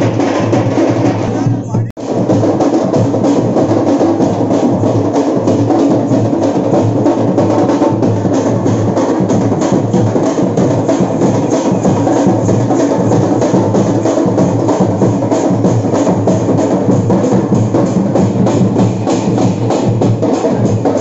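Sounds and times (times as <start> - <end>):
drums beaten with sticks: 0.0 - 21.0.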